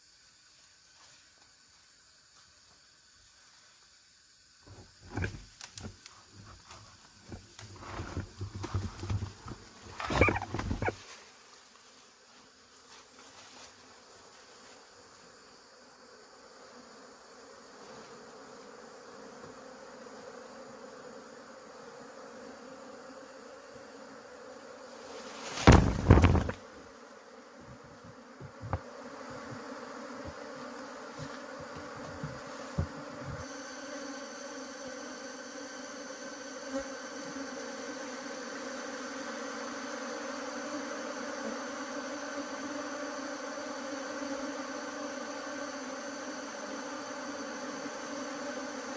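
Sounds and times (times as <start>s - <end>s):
honey bees buzzing: 4.3s - 48.9s.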